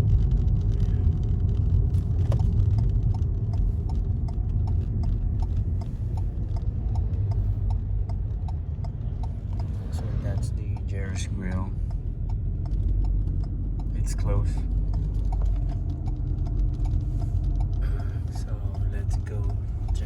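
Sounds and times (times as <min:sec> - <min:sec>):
car engine and road noise: 0:00.0 - 0:20.0
turn signal ticking: 0:00.0 - 0:20.0.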